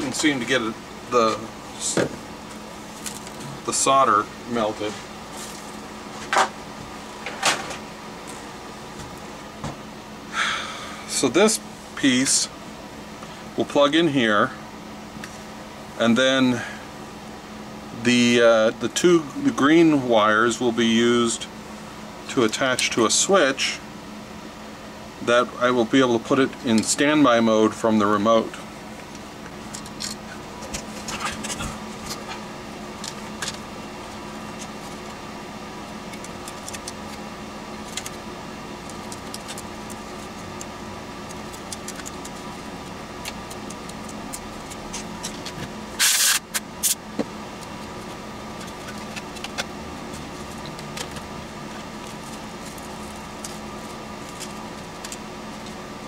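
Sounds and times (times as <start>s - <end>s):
background hum: 0.0s - 56.0s.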